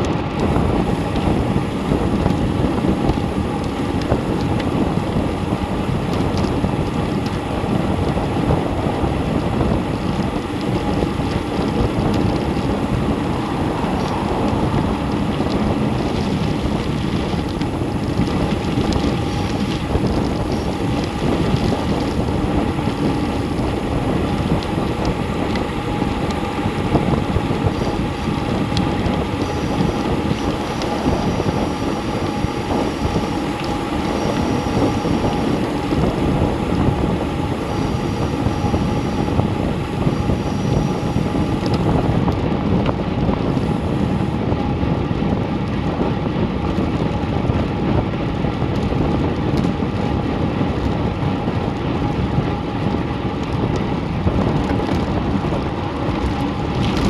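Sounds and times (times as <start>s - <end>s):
tyre road noise: 0.0s - 57.0s
wind rushing over microphone: 0.0s - 57.0s.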